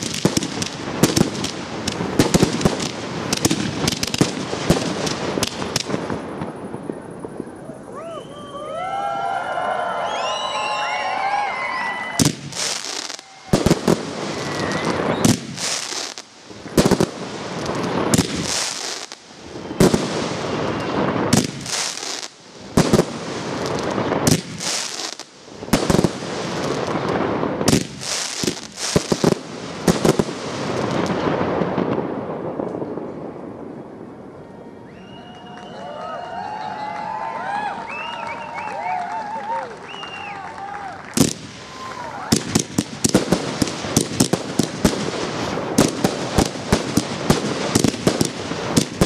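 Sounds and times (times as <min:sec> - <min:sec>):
firework bangs: 0:00.0 - 0:07.7, 0:10.3 - 0:34.1, 0:41.1 - 0:49.0
crackling hiss of fireworks: 0:00.0 - 0:49.0.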